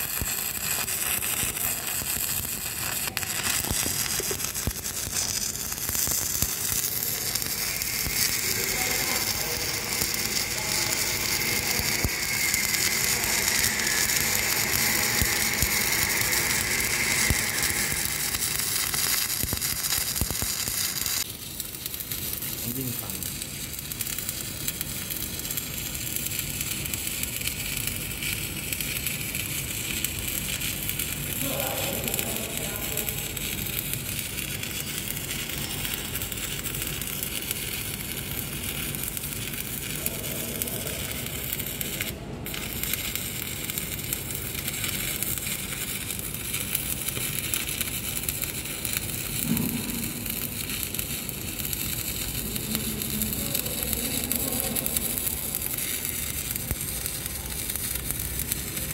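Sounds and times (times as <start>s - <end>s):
crackling welding arc: 0.0s - 58.9s.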